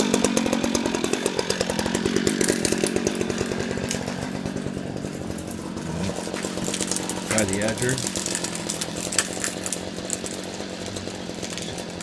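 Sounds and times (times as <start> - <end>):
string trimmer engine running: 0.0 - 12.0.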